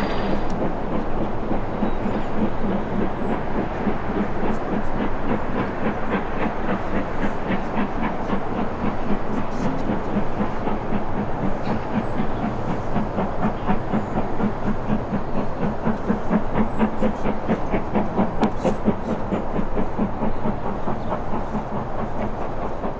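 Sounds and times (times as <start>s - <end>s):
steam locomotive chuffing: 0.0s - 22.9s.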